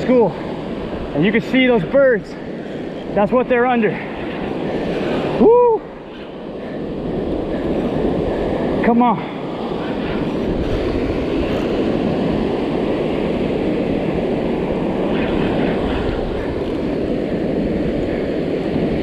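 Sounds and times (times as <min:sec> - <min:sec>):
surf breaking on shore: 0:00.0 - 0:19.0
wind rushing over microphone: 0:00.0 - 0:19.0.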